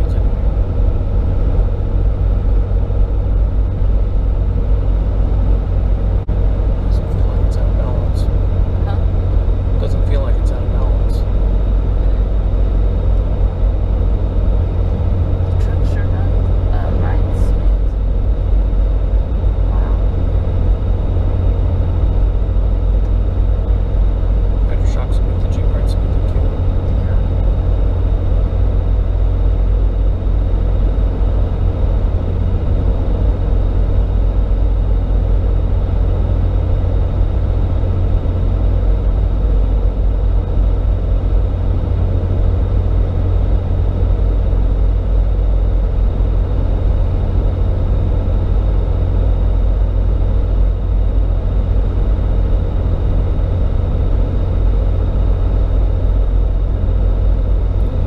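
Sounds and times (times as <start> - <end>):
road and engine drone inside truck: 0.0 - 58.0.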